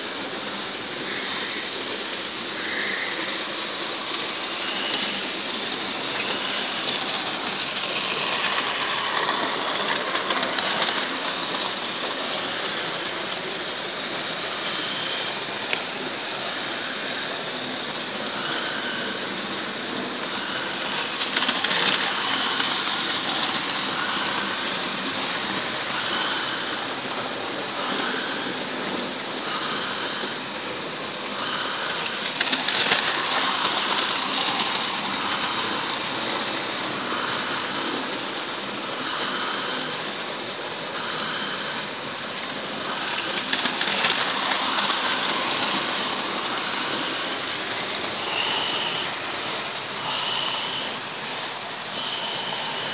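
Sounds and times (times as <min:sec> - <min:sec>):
model trains running on track: 0:00.0 - 0:52.9.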